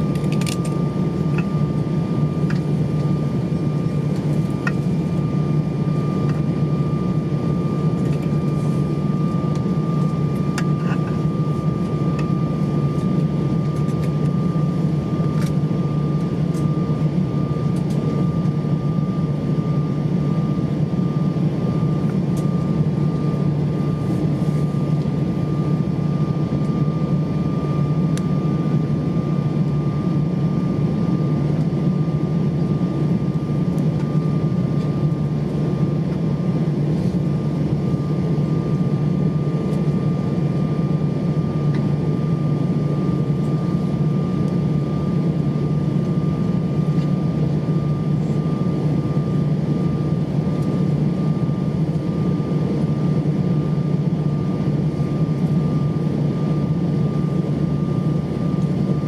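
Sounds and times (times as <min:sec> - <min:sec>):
aircraft engines idling: 0:00.0 - 0:59.0.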